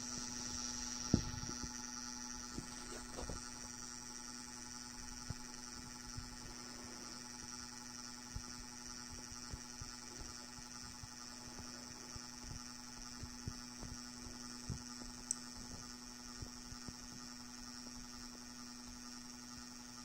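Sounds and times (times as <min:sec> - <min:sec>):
model train motor hum: 0:00.0 - 0:20.0.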